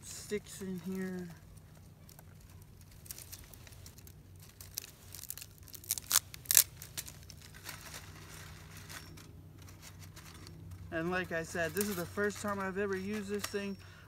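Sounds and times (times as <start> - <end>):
dry twigs snapping and crunching: 0.0 - 13.8.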